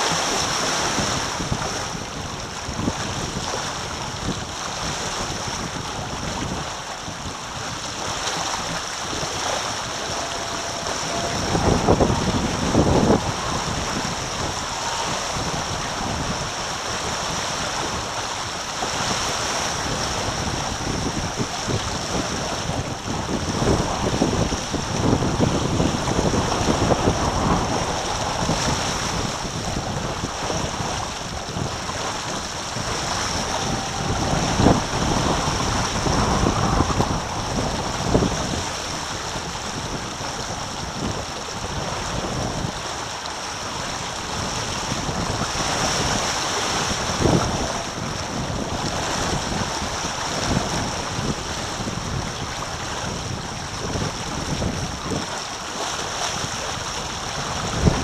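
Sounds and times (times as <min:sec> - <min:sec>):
water rushing past hulls: 0:00.0 - 0:58.0
waves slapping hull: 0:00.0 - 0:58.0
wind buffeting microphone: 0:00.0 - 0:58.0.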